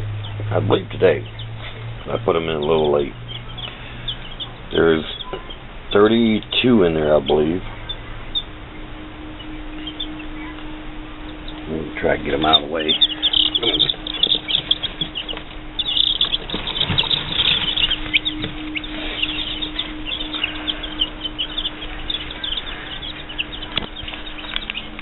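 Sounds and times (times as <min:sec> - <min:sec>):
chicks peeping: 0:00.0 - 0:25.0
steady low hum: 0:00.0 - 0:25.0.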